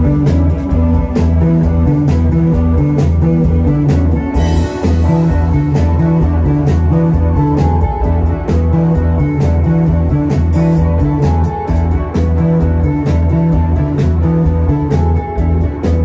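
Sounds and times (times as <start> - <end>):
drums: 0.0 - 16.0
electric guitars and bass riff: 0.0 - 16.0.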